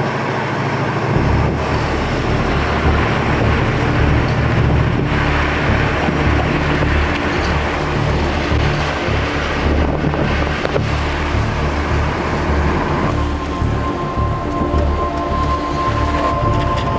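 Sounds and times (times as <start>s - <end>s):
road and wind noise: 0.0s - 16.9s
low rumble: 1.1s - 16.9s.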